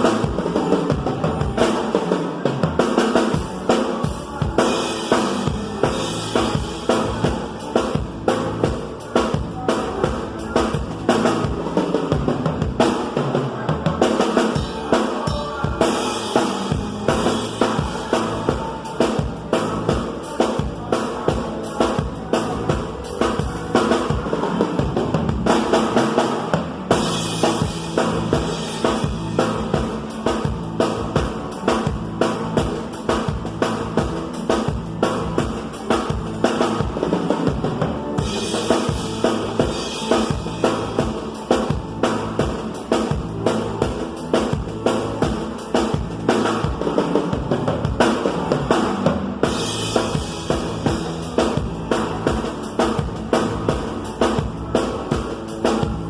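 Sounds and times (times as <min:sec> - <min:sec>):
drum kit steady beat: 0:00.0 - 0:56.0
live band music: 0:00.0 - 0:56.0.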